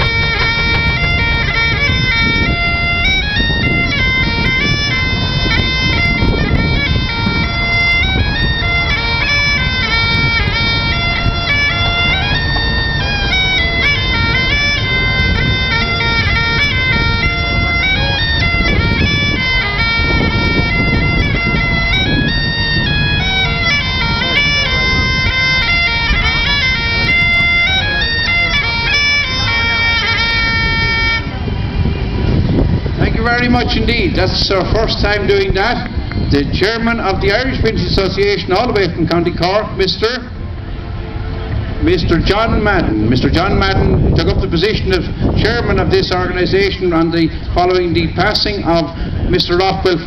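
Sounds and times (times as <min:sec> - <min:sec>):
bagpipes playing a tune: 0:00.0 - 0:50.0.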